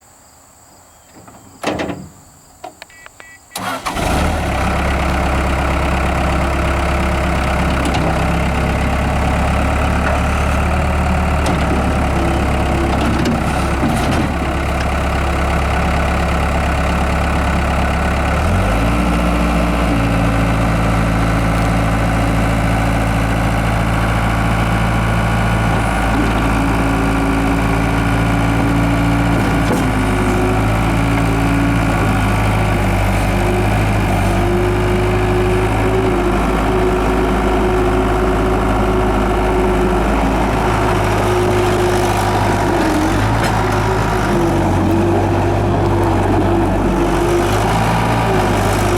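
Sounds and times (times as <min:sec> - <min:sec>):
diesel engine cranking and running: 0:03.5 - 0:48.9.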